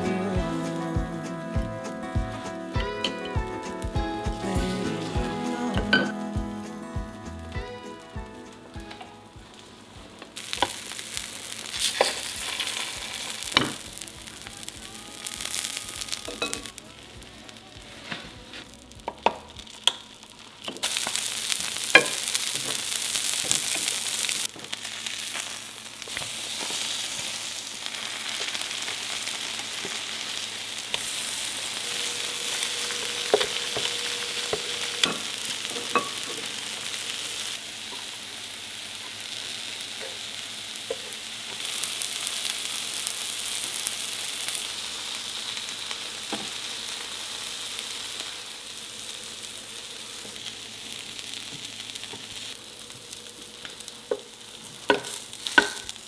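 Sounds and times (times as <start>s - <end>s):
fish sizzling in oil: 9.4s - 56.0s.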